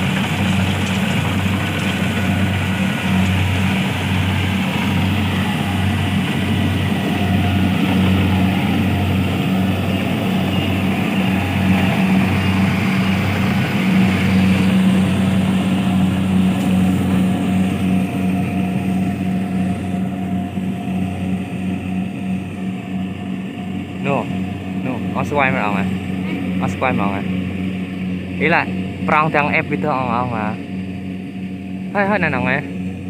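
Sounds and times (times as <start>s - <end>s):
harvesting machine engine running: 0.0s - 33.0s.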